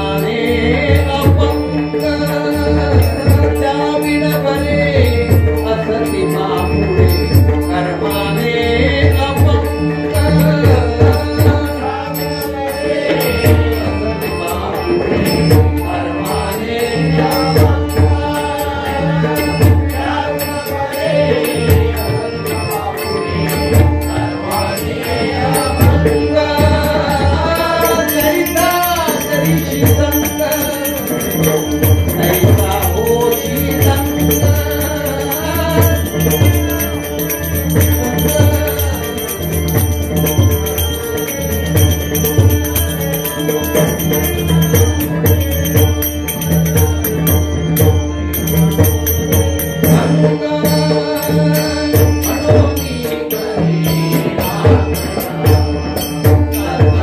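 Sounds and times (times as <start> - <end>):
man chanting and singing: 0.0 - 40.8, 49.8 - 57.0
harmonium drone: 0.0 - 57.0.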